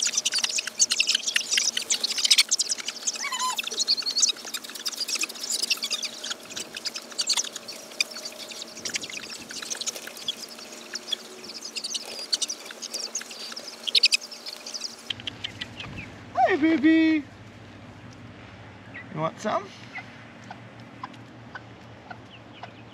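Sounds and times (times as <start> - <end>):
chicks peeping and chirping: 0.0 - 16.3, 18.8 - 22.9.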